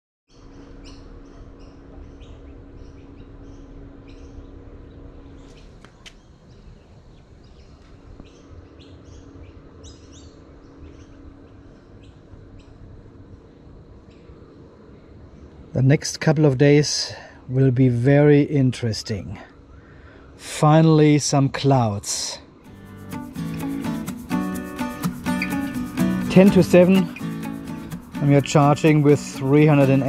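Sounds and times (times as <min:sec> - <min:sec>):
low steady hum: 0:00.3 - 0:24.4
birds chirping: 0:00.3 - 0:30.0.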